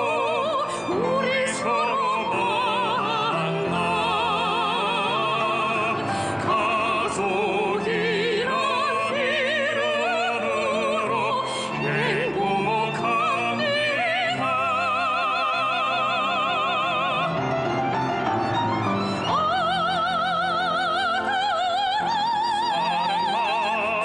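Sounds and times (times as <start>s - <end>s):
ballad singing with vibrato: 0.0s - 17.7s, 18.8s - 24.0s
orchestral accompaniment: 0.0s - 24.0s.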